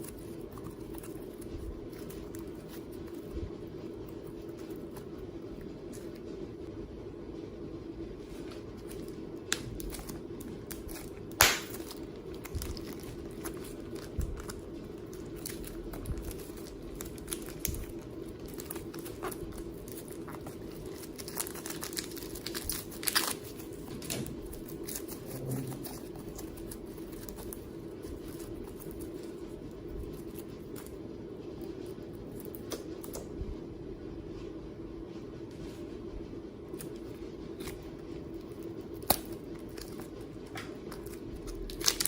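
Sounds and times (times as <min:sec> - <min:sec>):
slime crackling: 0:00.0 - 0:06.2, 0:08.8 - 0:31.0, 0:36.8 - 0:42.0
steady low hum: 0:00.0 - 0:42.0.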